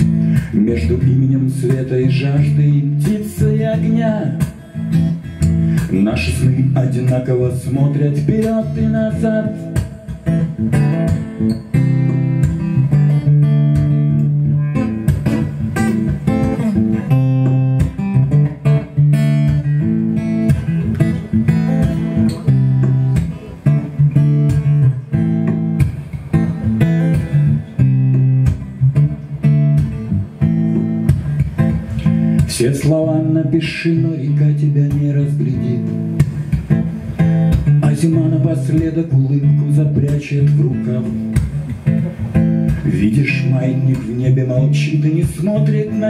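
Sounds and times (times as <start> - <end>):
acoustic guitar picked and strummed: 0.0 - 46.0.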